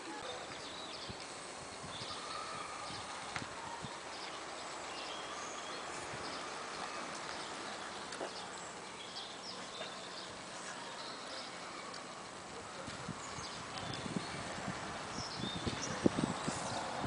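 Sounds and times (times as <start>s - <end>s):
distant birds chirping: 0.1s - 16.9s.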